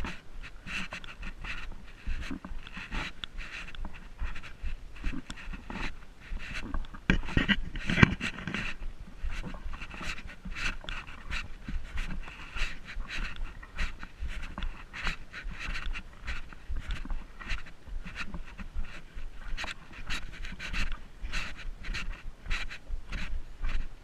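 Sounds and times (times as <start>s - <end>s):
heavy panting: 0.0s - 23.9s
clicks and scuffs: 0.0s - 24.0s.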